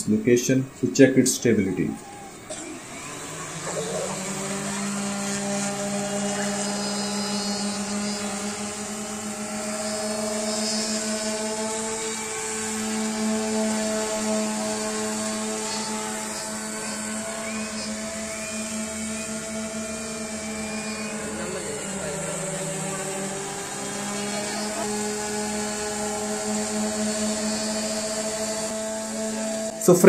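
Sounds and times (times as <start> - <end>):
electric motors and propellers buzzing: 0.8 - 30.0.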